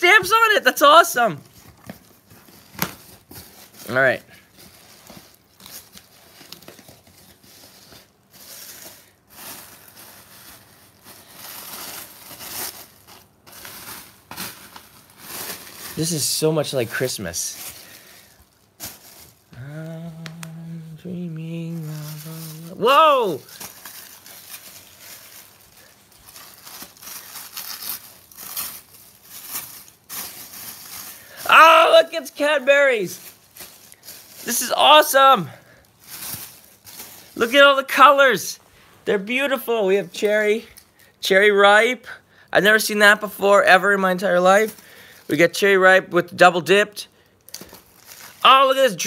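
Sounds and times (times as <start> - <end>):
packing wrap crinkling and rustling: 0.0 - 41.3, 42.7 - 49.0.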